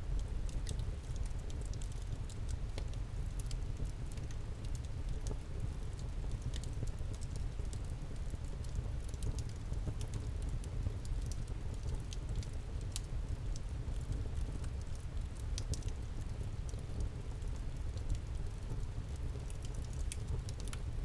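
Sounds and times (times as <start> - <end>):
low rumble of flames: 0.0 - 21.0
campfire crackling and popping: 0.2 - 13.1, 13.9 - 21.0.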